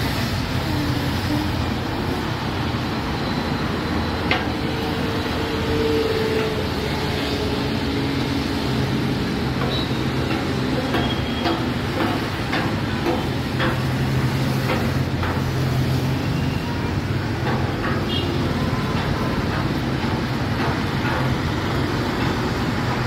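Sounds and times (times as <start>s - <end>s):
highway traffic hum: 0.0s - 23.0s
tyres on the road: 0.0s - 23.0s.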